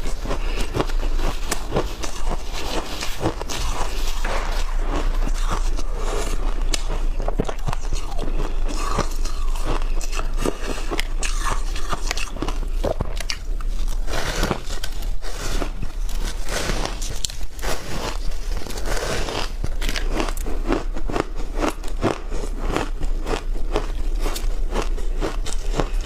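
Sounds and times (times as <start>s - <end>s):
chewing crunchy shaved ice: 0.0s - 26.0s.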